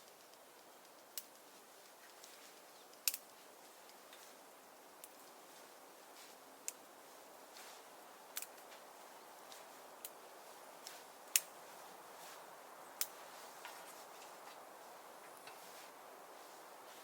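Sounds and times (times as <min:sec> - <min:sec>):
firewood crackling and popping: 0:00.0 - 0:15.8
low rush of stove fire: 0:00.0 - 0:17.0.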